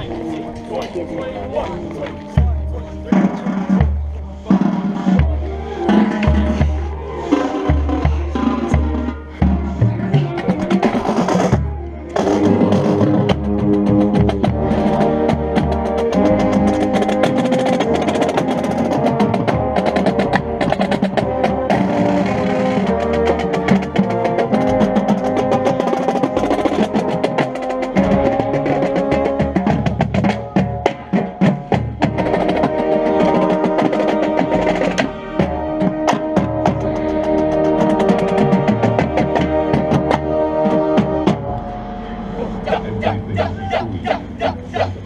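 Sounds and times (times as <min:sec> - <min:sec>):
drumline percussion: 0:00.0 - 0:45.0
wind and brass chords: 0:00.0 - 0:45.0.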